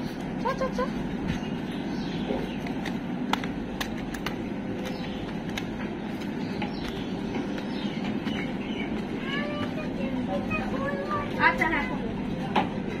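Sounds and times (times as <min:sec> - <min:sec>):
footsteps on stone stairs: 0:00.0 - 0:10.8
low outdoor rumble: 0:00.0 - 0:13.0.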